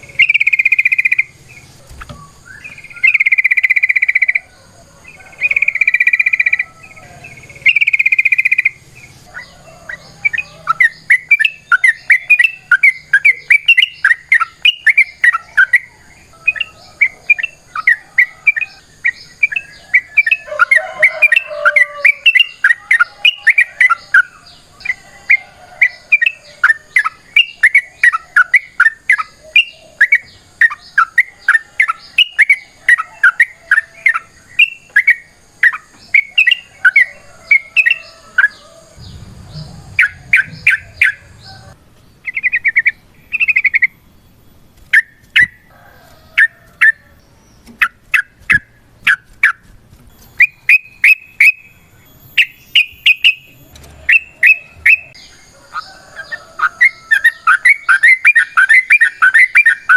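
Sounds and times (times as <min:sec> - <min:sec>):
bird chirping chatter: 0:00.0 - 0:59.9
bird calling long even notes: 0:02.2 - 0:46.0, 0:50.2 - 0:59.9.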